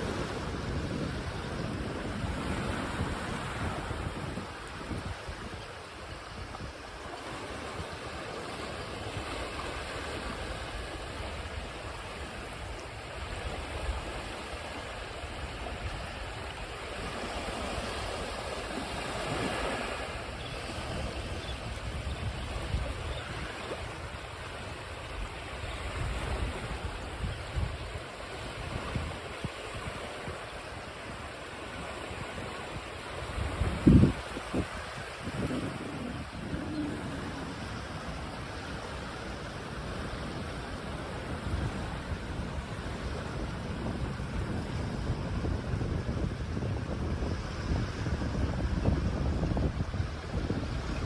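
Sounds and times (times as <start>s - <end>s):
ocean waves washing onto shore: 0.0s - 51.0s
wind on microphone: 0.0s - 51.0s.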